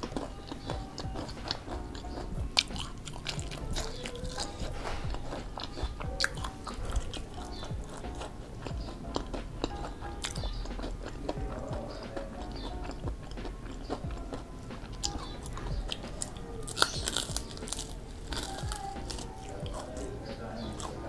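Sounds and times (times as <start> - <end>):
chewing crispy food: 0.0 - 21.0.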